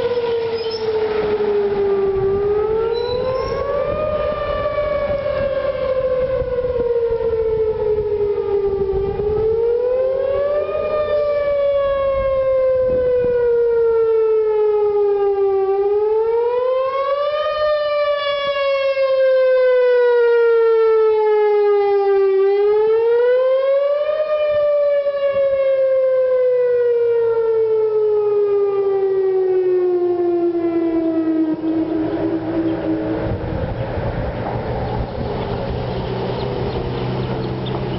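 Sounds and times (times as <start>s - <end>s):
tornado siren wailing: 0.0s - 37.9s.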